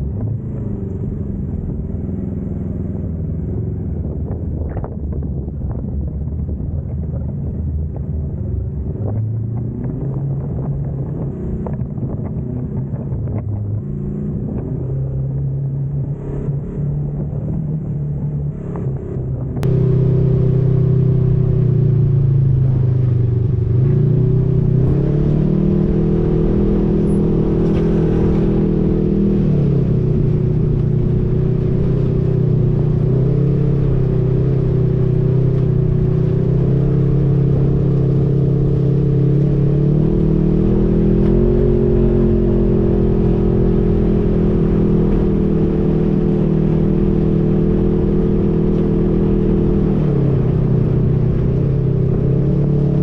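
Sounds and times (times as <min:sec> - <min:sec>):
off-road vehicle engine revving: 0:08.8 - 0:53.0.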